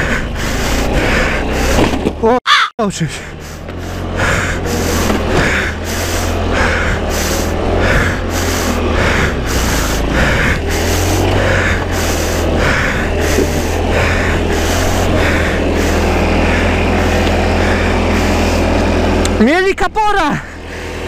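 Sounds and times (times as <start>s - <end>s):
scooter engine running: 0.0s - 2.4s, 3.0s - 21.0s.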